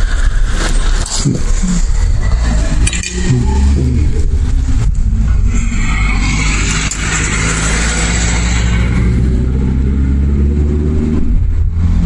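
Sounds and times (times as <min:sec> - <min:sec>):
road traffic rushing: 0:00.0 - 0:12.0
vehicle engine running: 0:00.0 - 0:12.0.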